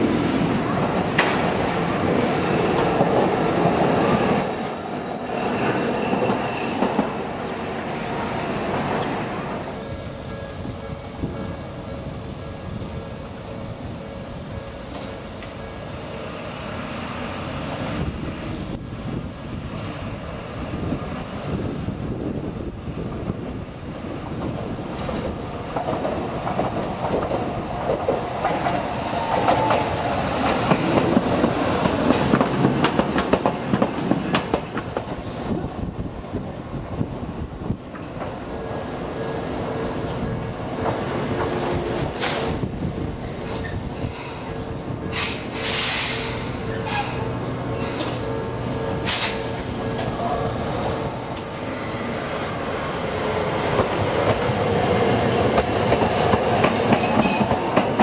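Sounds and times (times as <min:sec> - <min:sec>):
streetcar wheels rumbling on rails: 0:00.0 - 0:58.0.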